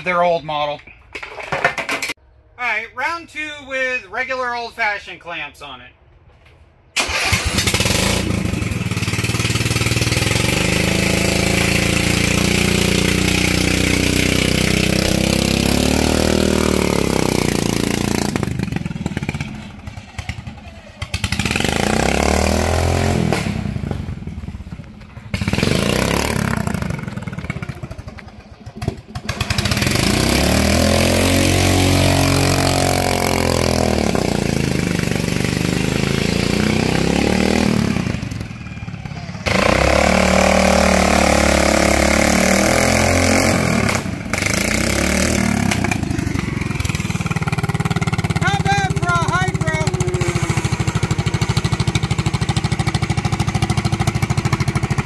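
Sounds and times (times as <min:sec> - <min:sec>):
engine revving: 0:07.0 - 0:55.0.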